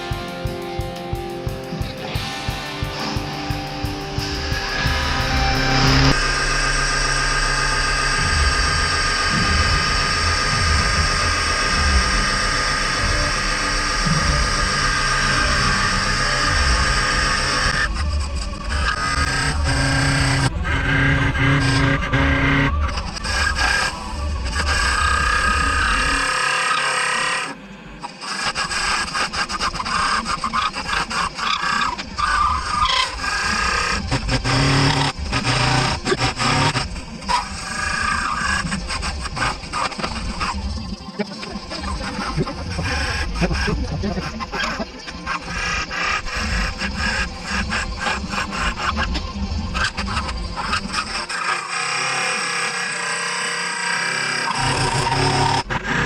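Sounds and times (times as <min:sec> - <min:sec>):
wood lathe motor humming: 0:03.9 - 0:27.5, 0:28.2 - 0:40.7, 0:41.4 - 0:56.0.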